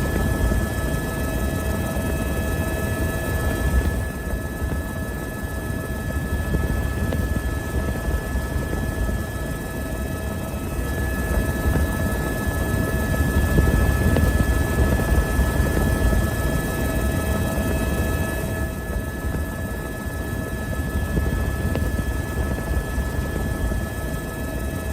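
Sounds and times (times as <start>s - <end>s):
helicopter running: 0.0s - 24.9s.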